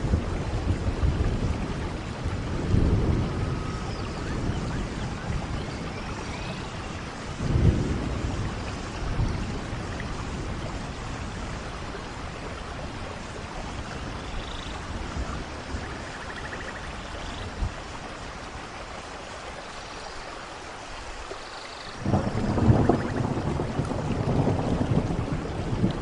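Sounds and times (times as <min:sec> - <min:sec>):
thunder rumbling: 0:00.0 - 0:17.9, 0:22.0 - 0:26.0
steady rain: 0:00.0 - 0:26.0.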